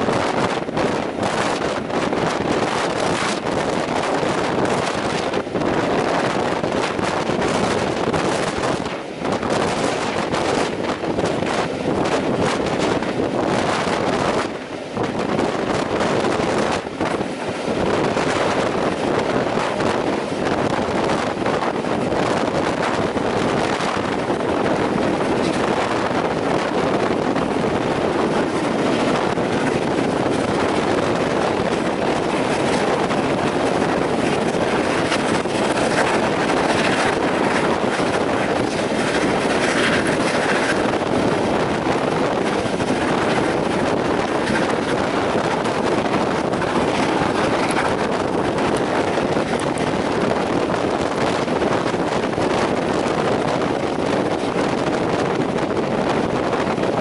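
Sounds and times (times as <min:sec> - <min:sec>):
train coaches rumbling on rails: 0:00.0 - 0:57.0
wind buffeting microphone: 0:00.0 - 0:57.0.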